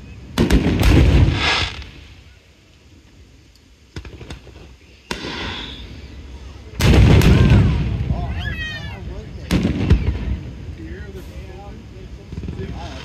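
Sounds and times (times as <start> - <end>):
fireworks bursting: 0.0 - 2.8, 3.9 - 13.0.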